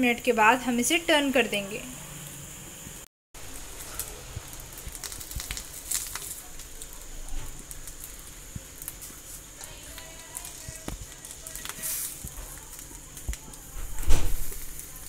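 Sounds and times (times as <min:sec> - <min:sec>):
fish sizzling on grill pan: 0:00.0 - 0:15.0.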